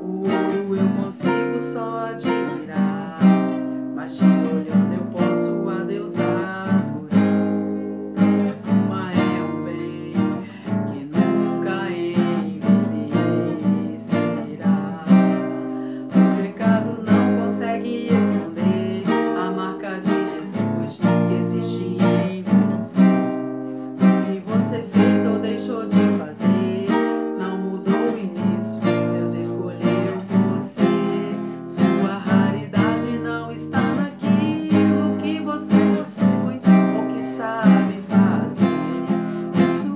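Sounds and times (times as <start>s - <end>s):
classical guitar fingerpicked: 0.0s - 39.9s.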